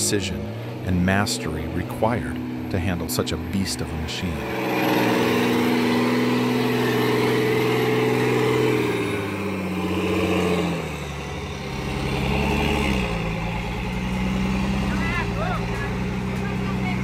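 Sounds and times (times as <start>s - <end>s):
heavy truck engine labouring: 0.0s - 17.0s.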